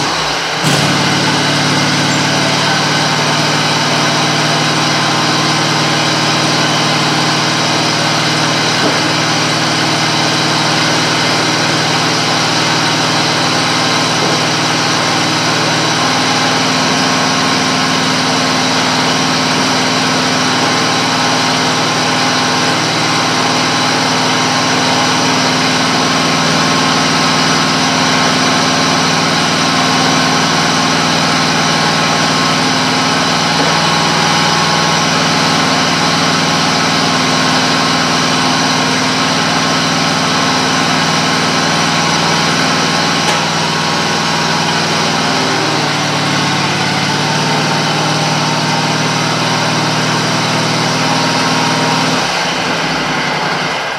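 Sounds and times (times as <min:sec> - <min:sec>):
mower engine idling: 0:00.0 - 0:53.9.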